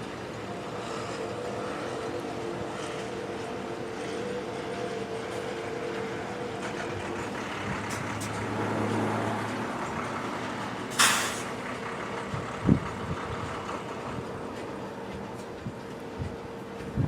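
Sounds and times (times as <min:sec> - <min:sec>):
freight train rumbling by: 0:00.0 - 0:17.0.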